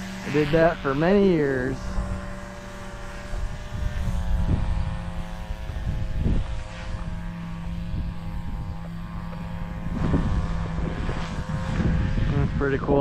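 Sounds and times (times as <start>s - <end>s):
string trimmer engine running: 0.0s - 13.0s
wind buffeting microphone: 0.0s - 13.0s.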